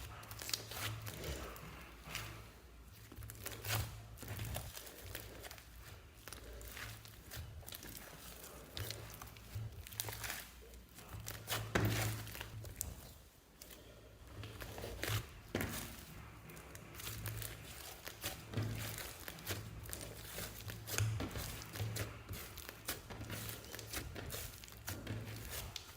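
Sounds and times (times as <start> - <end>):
slime squeezed crackling: 0.0 - 25.9.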